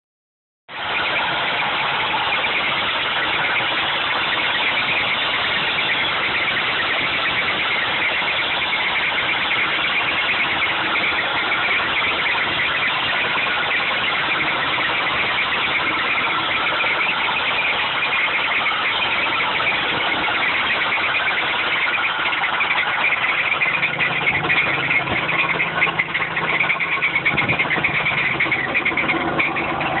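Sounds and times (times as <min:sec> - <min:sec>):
engine running with bad bearing noise: 0:00.7 - 0:30.0.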